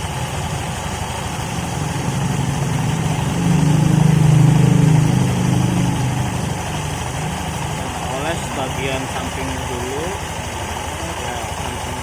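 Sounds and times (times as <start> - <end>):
drive belt and pulleys spinning: 0.0 - 12.0
scooter engine running: 0.0 - 12.0.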